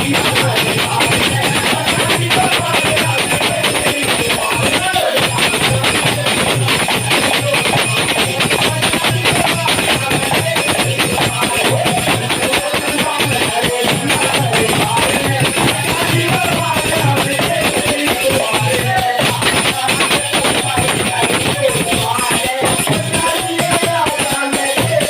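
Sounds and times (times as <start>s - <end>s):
jingling percussion: 0.0s - 25.0s.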